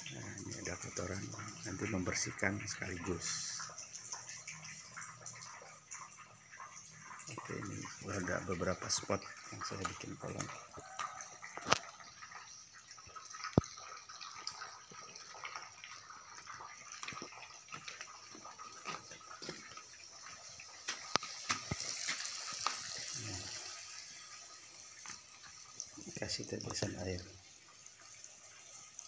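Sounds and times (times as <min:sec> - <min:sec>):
water trickling and dripping: 0:00.0 - 0:29.0.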